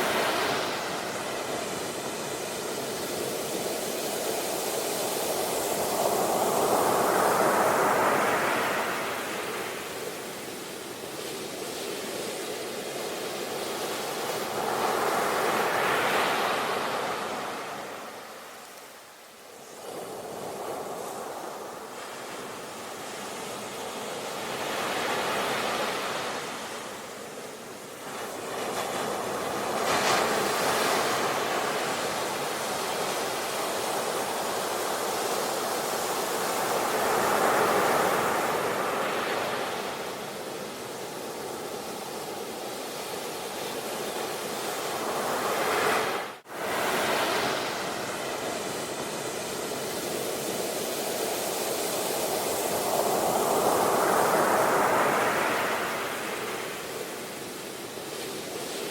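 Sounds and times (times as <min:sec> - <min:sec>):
sea waves breaking ashore: 0:00.0 - 0:58.9.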